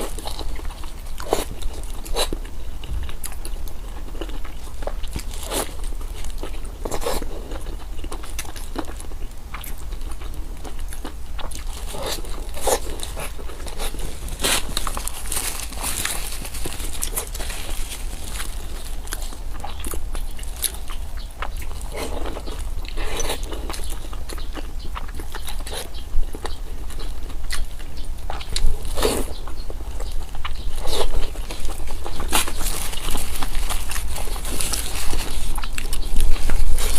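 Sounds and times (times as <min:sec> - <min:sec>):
chewing crunchy food: 0:00.0 - 0:36.9
steady low hum: 0:00.0 - 0:36.9.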